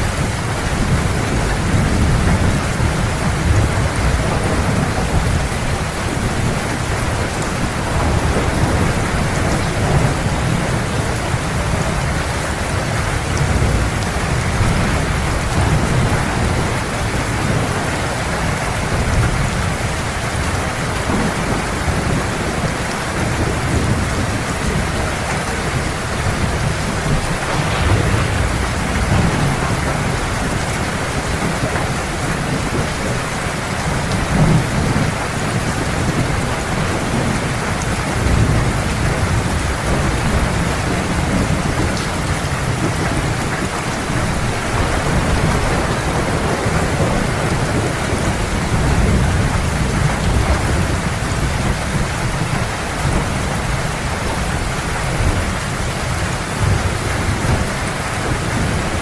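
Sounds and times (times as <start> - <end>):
heavy rain: 0.0 - 59.0
low rumble of thunder: 0.0 - 59.0.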